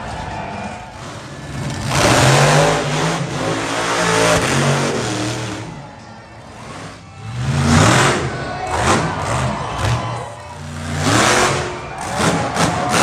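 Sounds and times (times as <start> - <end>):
truck engine revving: 0.1 - 13.0.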